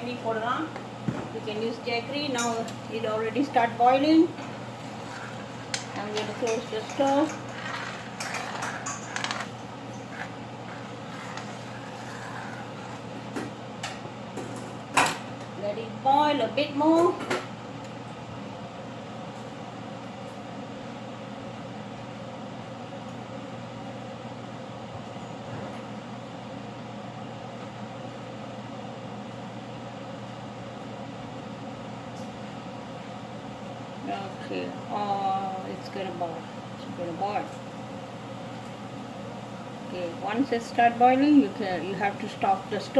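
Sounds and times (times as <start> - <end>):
pot boiling hum: 0.0 - 42.9.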